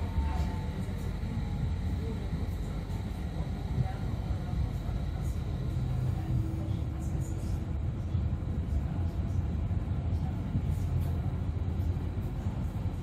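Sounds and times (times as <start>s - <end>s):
faint steady hum: 0.0s - 13.0s
tram interior rumble: 0.0s - 13.0s.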